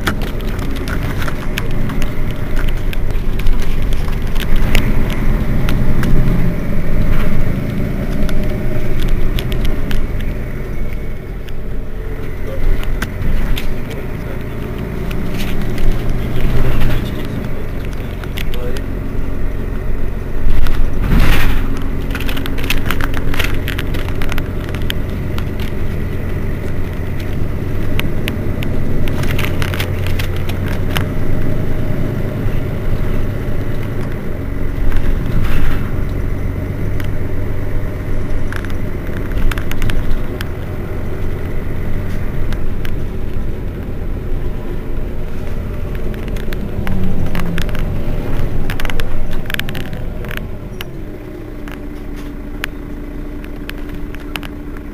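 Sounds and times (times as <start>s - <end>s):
bus engine idling: 0.0s - 54.9s.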